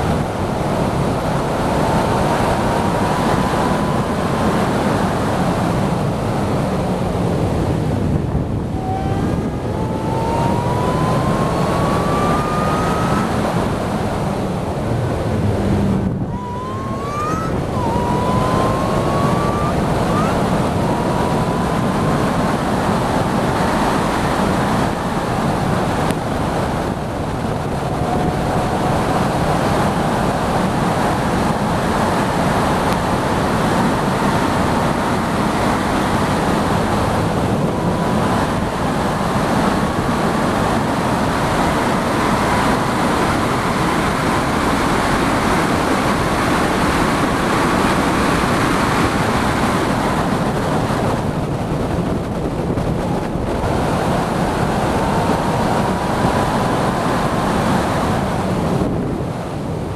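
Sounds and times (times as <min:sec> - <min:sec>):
faint engine whine: 0:00.0 - 0:59.9
heavy wind rush: 0:00.0 - 0:59.9.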